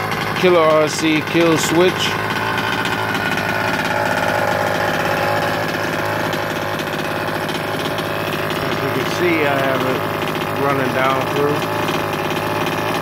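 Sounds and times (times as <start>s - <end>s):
small two-stroke engine idling: 0.0s - 13.0s.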